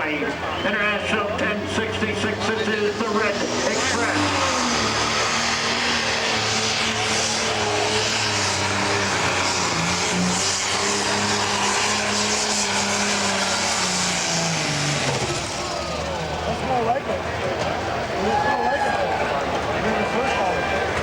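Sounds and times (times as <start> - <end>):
tractor diesel engine at full throttle: 0.0 - 21.0.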